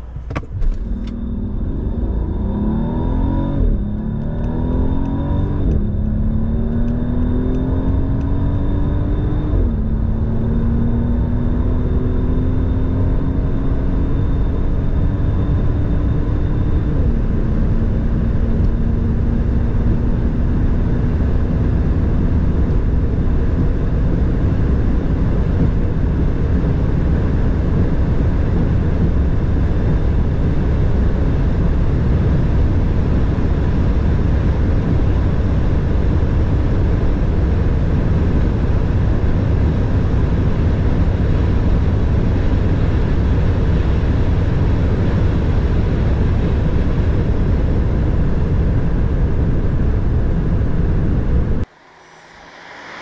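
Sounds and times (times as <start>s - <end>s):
car engine accelerating: 0.0s - 53.0s
wind and road noise: 0.0s - 53.0s.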